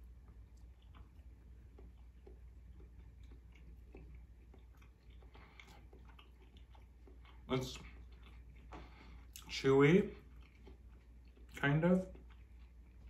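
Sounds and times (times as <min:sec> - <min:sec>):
chewing mouth clicks and smacks: 0:00.0 - 0:13.0
low room hum: 0:00.0 - 0:13.0.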